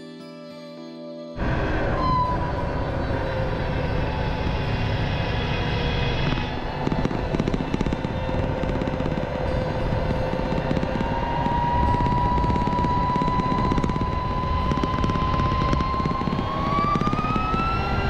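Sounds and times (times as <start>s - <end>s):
motorcycle engine whine: 1.4s - 18.0s
wind and road rumble: 1.4s - 18.0s.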